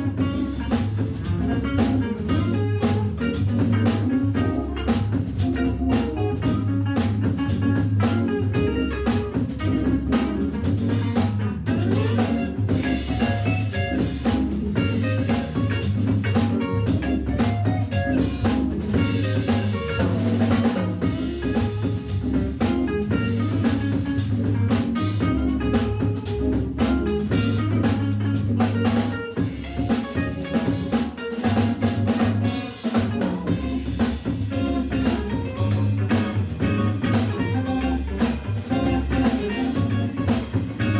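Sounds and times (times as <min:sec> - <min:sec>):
jazz organ trio playing: 0:00.0 - 0:40.9
sustained low organ notes: 0:00.0 - 0:40.9.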